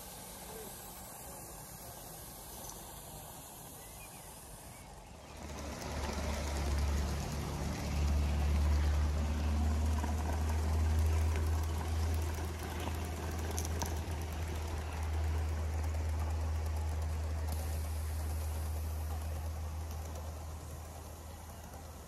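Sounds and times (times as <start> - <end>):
model train rumbling: 0.0 - 22.0.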